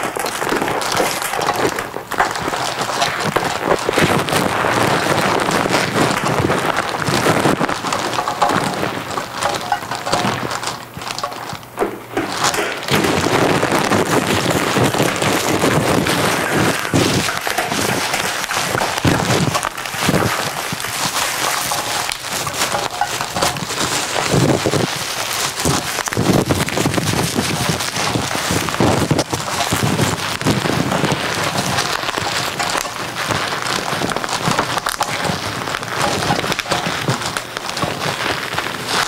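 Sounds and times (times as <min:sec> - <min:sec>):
plastic bottle crinkling: 0:00.0 - 0:39.0.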